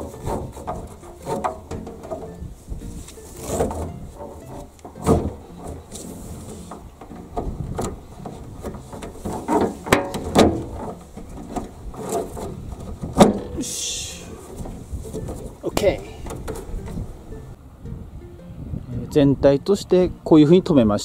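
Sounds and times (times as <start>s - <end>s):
rope rustling and rubbing: 0.0s - 17.2s.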